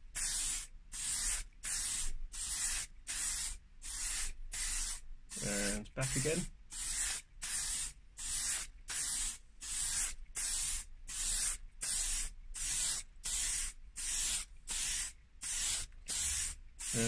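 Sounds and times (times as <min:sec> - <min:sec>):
aerosol can spraying hisses: 0:00.1 - 0:17.0.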